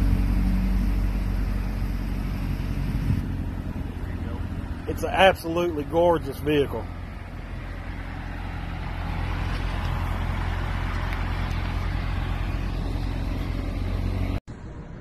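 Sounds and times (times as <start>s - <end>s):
car engine passing by: 0.0s - 15.0s.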